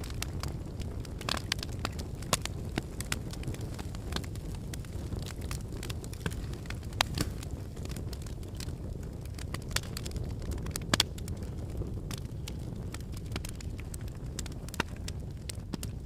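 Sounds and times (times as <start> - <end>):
fire rumbling: 0.0 - 16.0
logs crackling and popping: 0.0 - 16.0.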